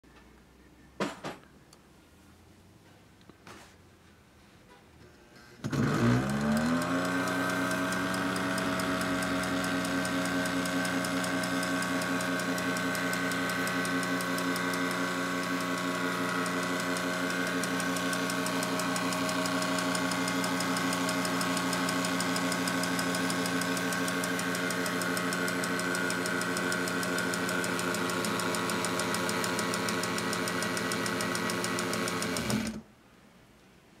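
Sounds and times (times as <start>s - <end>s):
sewing machine motor clattering: 5.6s - 32.8s.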